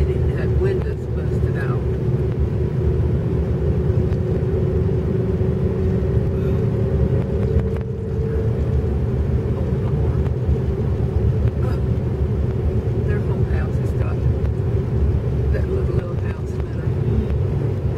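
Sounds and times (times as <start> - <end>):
car road and engine rumble: 0.0 - 17.9
steady hum: 0.0 - 17.9.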